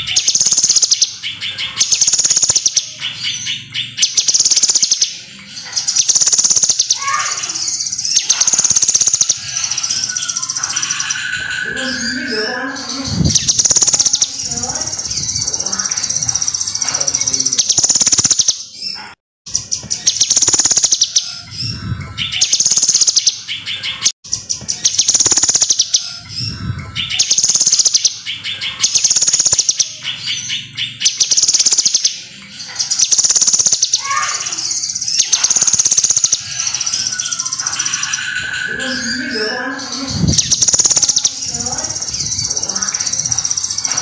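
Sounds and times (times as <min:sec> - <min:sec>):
bird singing trilled phrases: 0:00.0 - 0:44.0.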